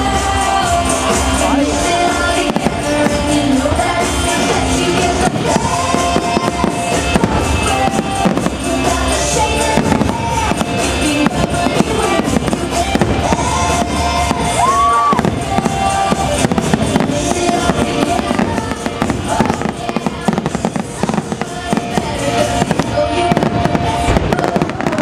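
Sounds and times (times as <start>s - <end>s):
fireworks bangs and crackling: 0.0s - 25.0s
music soundtrack: 0.0s - 25.0s.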